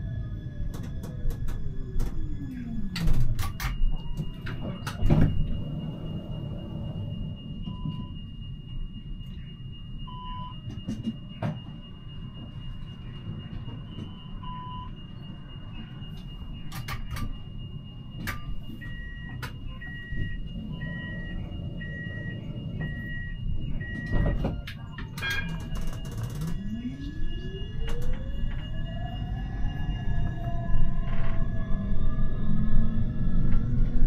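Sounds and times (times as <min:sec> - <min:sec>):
tram low rumble: 0:00.0 - 0:34.0
door warning beeps: 0:00.3 - 0:34.0.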